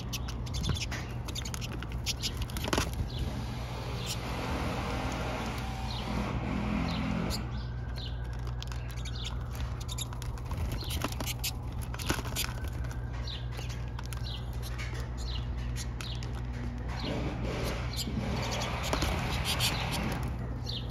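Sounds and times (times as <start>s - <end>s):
birds chirping and twittering: 0.0s - 20.9s
low city rumble: 0.0s - 20.9s.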